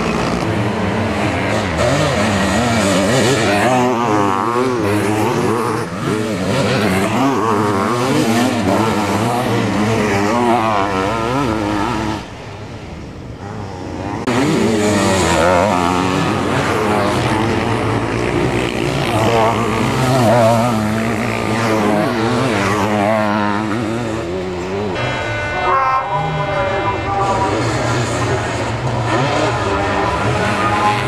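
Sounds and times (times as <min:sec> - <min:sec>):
motocross engines revving: 0:00.0 - 0:31.0.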